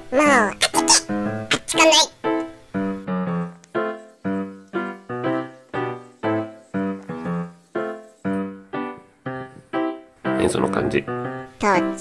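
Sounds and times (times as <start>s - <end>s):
background music with short notes: 0.8s - 1.5s, 2.1s - 12.0s.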